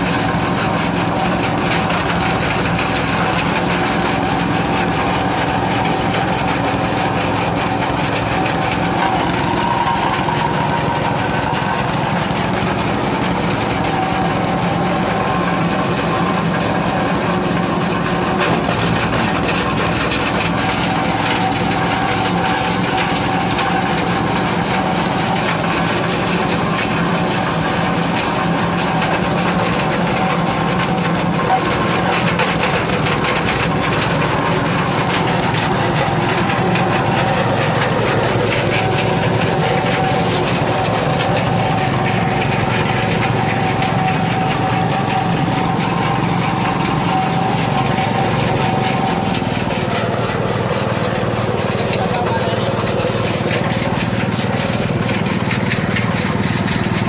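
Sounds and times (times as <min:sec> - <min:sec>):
grinding machine droning: 0:00.0 - 0:57.0.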